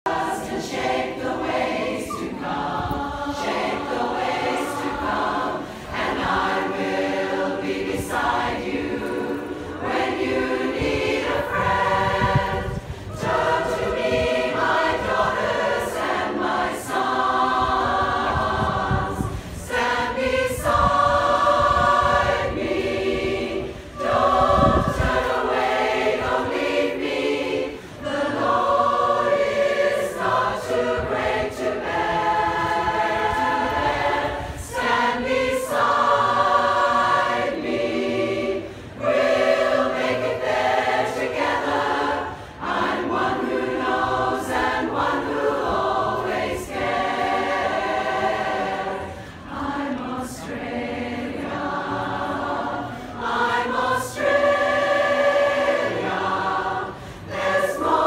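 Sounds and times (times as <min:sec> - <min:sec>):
women's chorus singing a cappella: 0:00.0 - 0:58.0.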